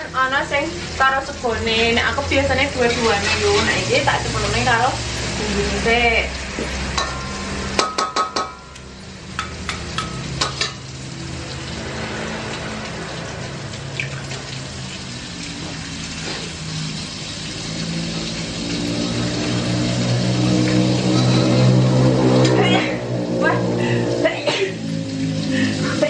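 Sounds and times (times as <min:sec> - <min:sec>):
frying sizzle: 0:00.0 - 0:26.0.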